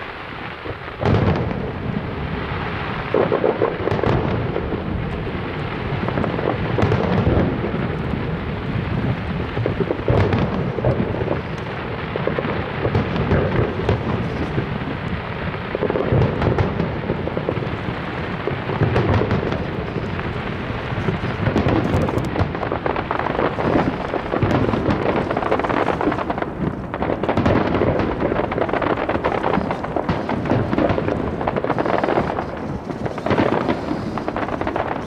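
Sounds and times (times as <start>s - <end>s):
deep fireworks booms: 0.0s - 35.0s
fireworks crackling: 0.0s - 35.0s.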